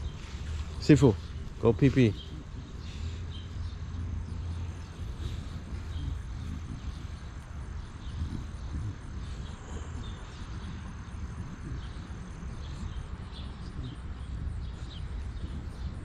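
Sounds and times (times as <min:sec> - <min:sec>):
bird chirps: 0:00.0 - 0:16.0
steady low rumble: 0:00.0 - 0:16.0.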